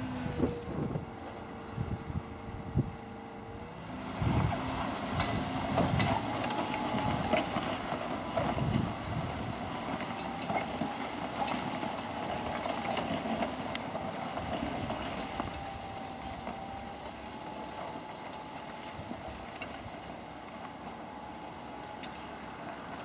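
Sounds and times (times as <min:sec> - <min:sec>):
tractor running under load: 0:00.0 - 0:23.0.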